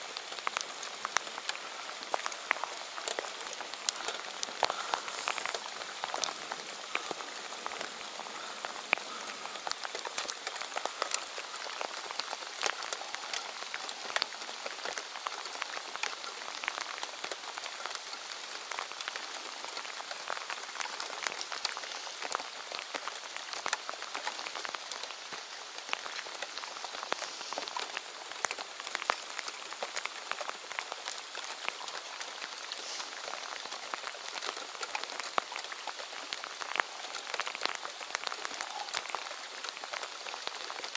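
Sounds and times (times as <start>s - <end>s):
heavy rain on lake surface: 0.0s - 40.9s
raindrops ticking close by: 0.0s - 40.9s.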